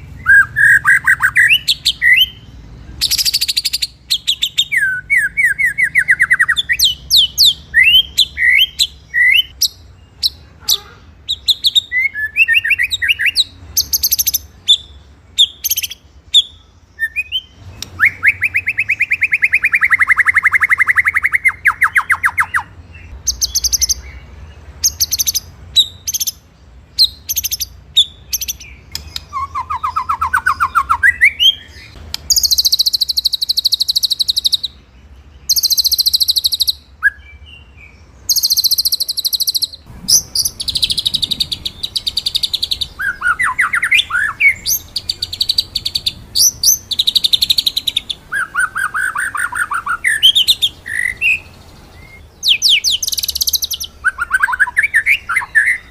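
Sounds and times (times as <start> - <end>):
songbird trilling song: 0.0 - 55.9.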